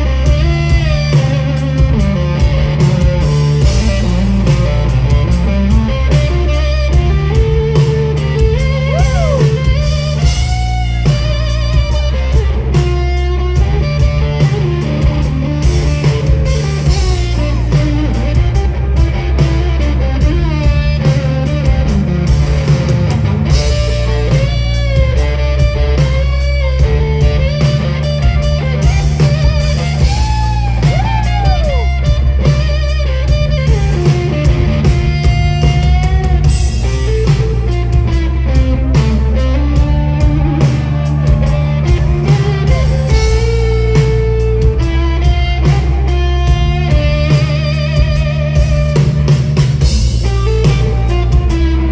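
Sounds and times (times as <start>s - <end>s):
electric guitar lead: 0.0s - 51.9s
sustained bass: 0.0s - 51.9s.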